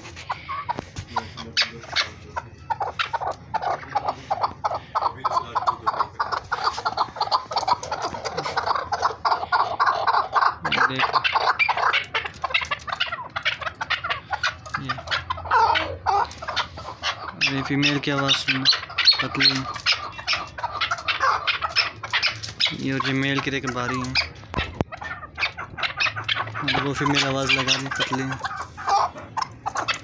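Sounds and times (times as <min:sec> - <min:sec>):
partridges calling: 0:00.0 - 0:30.0.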